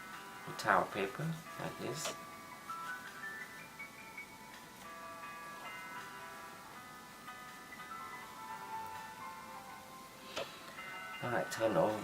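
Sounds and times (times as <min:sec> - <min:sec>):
bell-like melody: 0:00.0 - 0:12.0.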